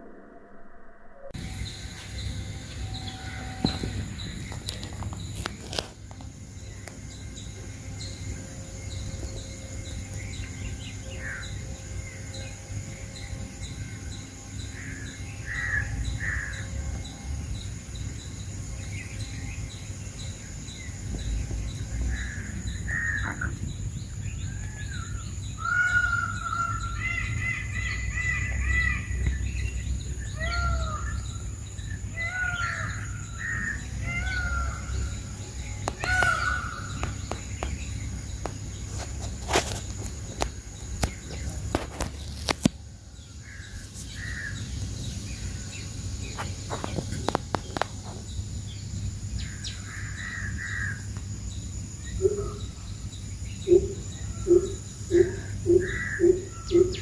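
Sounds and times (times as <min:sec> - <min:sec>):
high insect drone: 0:01.1 - 0:57.0
birds calling: 0:01.4 - 0:51.1, 0:52.0 - 0:57.0.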